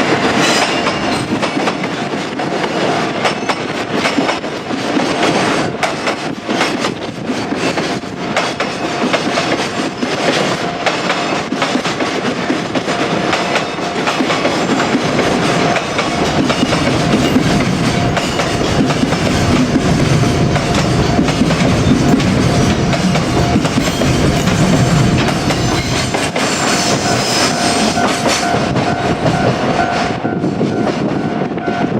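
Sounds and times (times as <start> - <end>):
freight train passing: 0.0 - 31.9
train wheels clattering over rail joints: 0.0 - 31.9.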